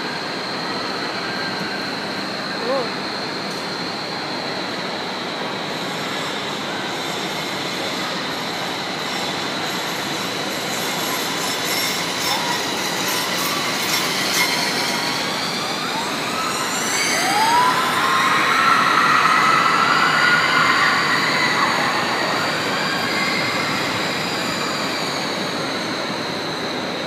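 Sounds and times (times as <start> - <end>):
roller coaster rolling rumble: 0.0 - 27.0
high squeals: 5.2 - 27.0.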